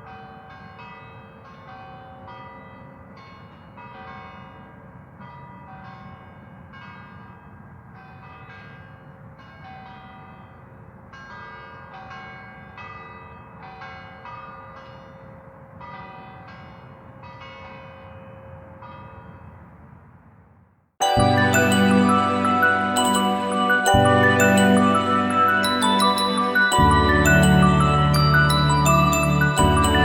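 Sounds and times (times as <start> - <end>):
distant church bells pealing: 0.0 - 19.7, 21.0 - 30.0.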